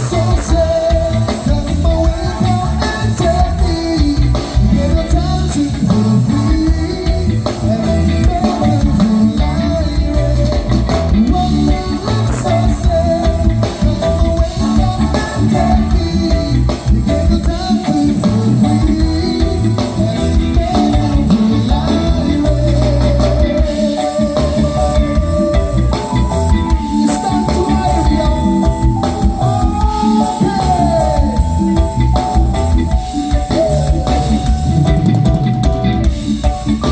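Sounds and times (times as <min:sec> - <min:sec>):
reggae band playing: 0:00.0 - 0:36.9.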